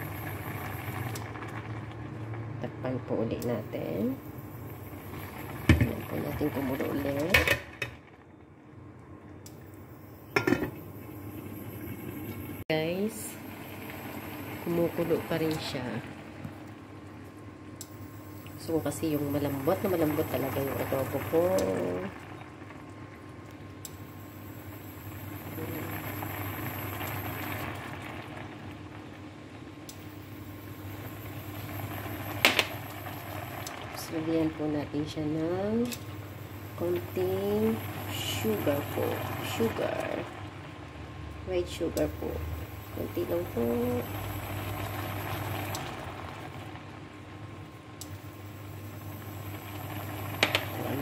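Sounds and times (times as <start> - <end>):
sauce simmering in a wok: 0.0 - 3.2, 4.2 - 35.2, 35.9 - 51.0.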